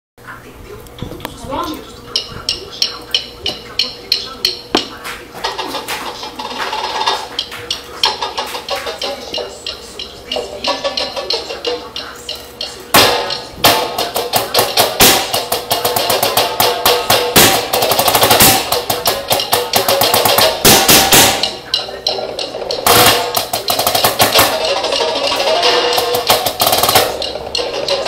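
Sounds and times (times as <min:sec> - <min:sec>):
drumsticks on practice pad: 0:02.1 - 0:28.0.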